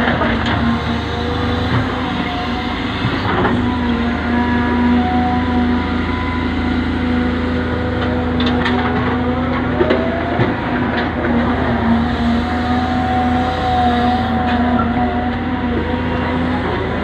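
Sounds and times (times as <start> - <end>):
excavator diesel engine running: 0.0 - 17.0
engine whine rising in pitch: 0.8 - 17.0.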